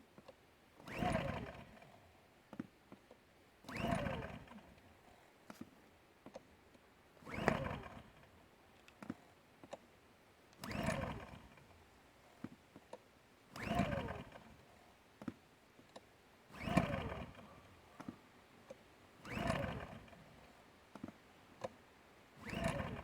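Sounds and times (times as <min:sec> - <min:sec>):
generator recoil starter pulls: 0:00.3 - 0:06.4, 0:07.2 - 0:09.9, 0:10.5 - 0:23.0.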